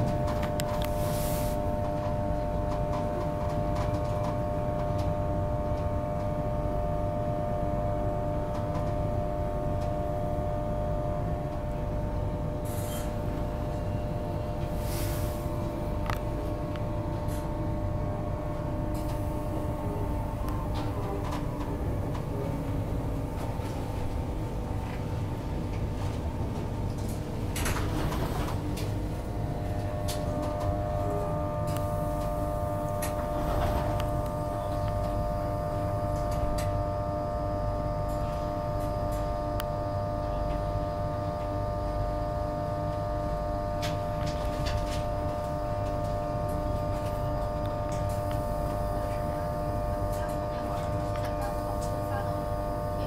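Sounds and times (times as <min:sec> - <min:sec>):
steady multi-pitched hum: 0:00.0 - 0:53.0.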